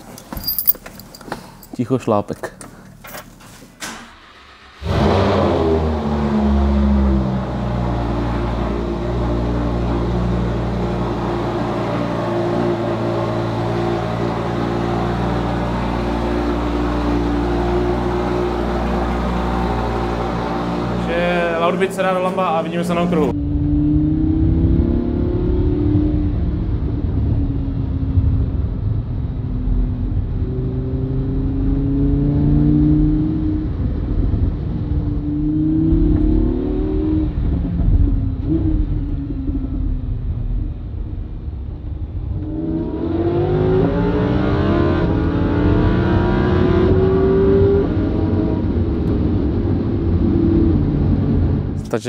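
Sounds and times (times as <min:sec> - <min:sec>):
sports car engine accelerating: 0:04.2 - 0:51.8.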